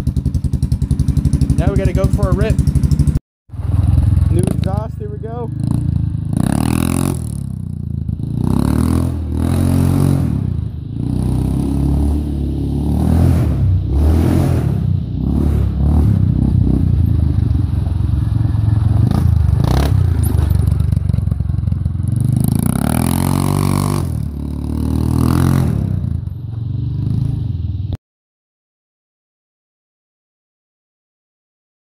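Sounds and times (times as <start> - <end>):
atv engine revving: 0.0 - 27.7.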